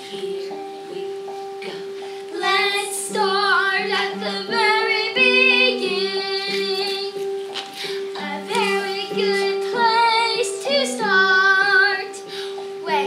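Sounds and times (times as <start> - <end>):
girl singing: 0.0 - 13.0
recorded accompaniment: 0.0 - 13.0.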